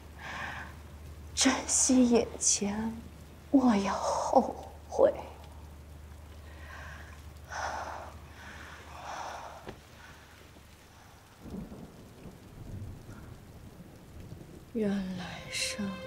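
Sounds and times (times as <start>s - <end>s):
quiet rain: 0.0s - 16.0s.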